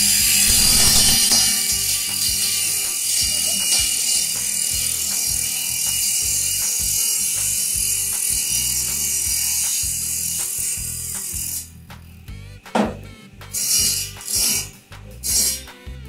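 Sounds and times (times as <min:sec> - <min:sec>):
skewer sharpening machine hissing: 0:00.0 - 0:12.2, 0:13.5 - 0:15.8.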